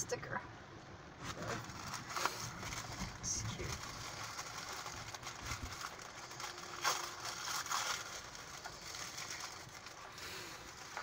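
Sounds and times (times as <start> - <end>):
packaging rustling and crinkling: 1.2 - 11.0.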